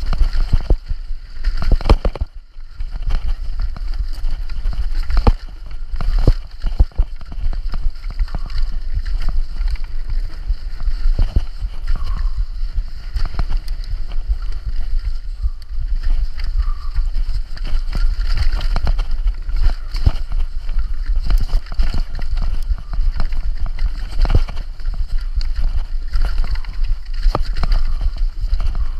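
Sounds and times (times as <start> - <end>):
mountain bike rattling over rocks: 0.0 - 28.9.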